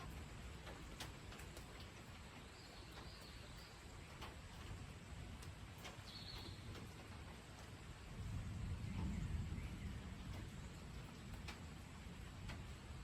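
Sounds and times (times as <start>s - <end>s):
faint steady rain: 0.0s - 13.0s
raindrops ticking: 0.0s - 13.0s.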